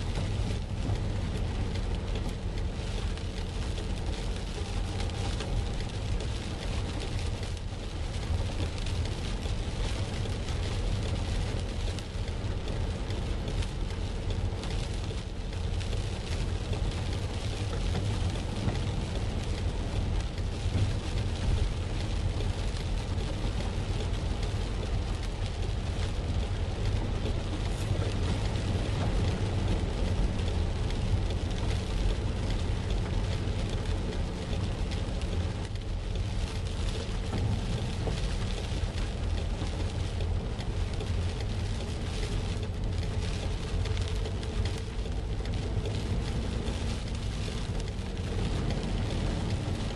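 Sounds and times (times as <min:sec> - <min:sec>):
car engine and road hum: 0:00.0 - 0:49.9
hiss of rain and water: 0:00.0 - 0:49.9.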